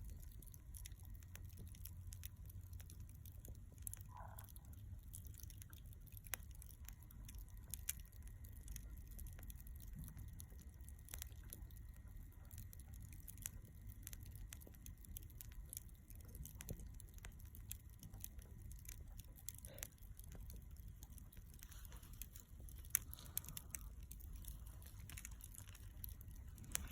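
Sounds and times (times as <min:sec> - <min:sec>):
charcoal crackling and popping: 0:00.0 - 0:26.9
low steady rumble: 0:00.0 - 0:26.9.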